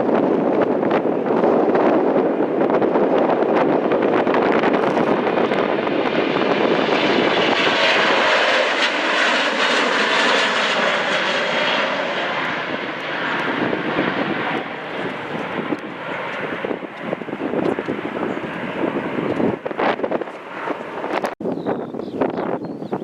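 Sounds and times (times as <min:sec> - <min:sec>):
jet airliner passing: 0:00.0 - 0:21.5.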